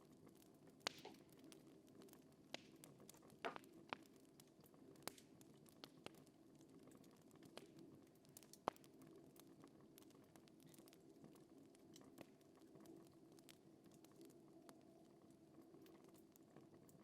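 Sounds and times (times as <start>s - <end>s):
fire crackling with sharp pops: 0.0s - 17.0s.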